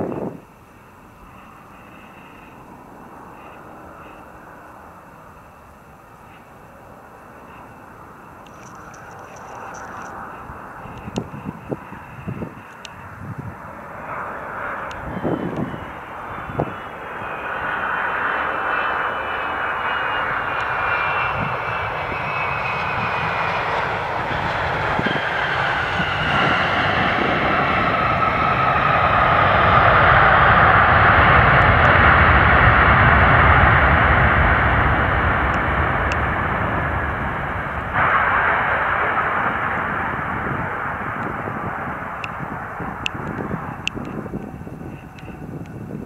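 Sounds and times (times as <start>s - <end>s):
airliner roar: 0.0s - 46.0s
jet engine whine: 0.0s - 46.0s.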